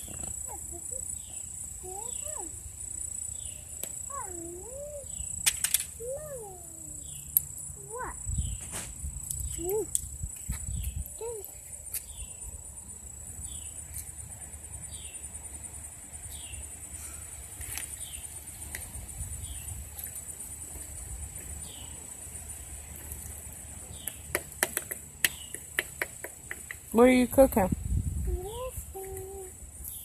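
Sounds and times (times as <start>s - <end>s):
high insect trill: 0.0s - 30.0s.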